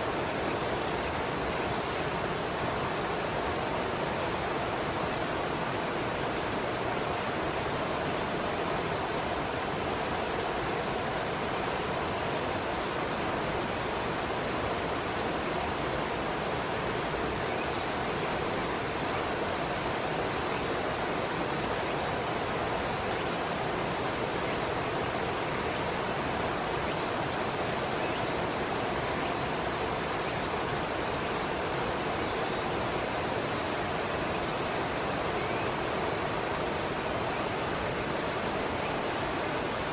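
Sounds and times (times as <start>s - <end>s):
constant hiss: 0.0s - 39.9s
insects buzzing: 0.0s - 39.9s.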